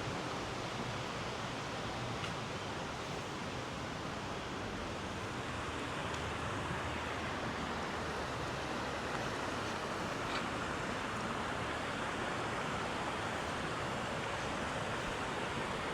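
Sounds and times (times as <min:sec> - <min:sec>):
river water rushing: 0:00.0 - 0:15.9.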